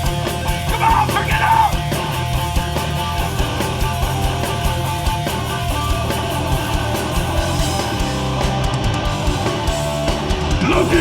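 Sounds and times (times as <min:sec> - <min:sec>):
punk band playing live: 0:00.0 - 0:11.0.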